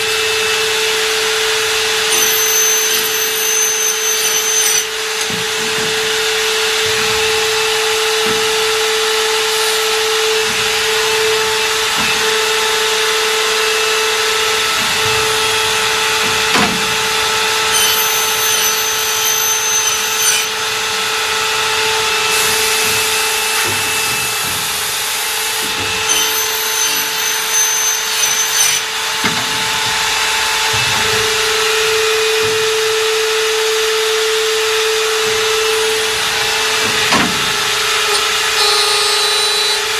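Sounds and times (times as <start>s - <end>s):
higher machine whines: 0.0s - 39.9s
steady motor whine: 0.0s - 39.9s.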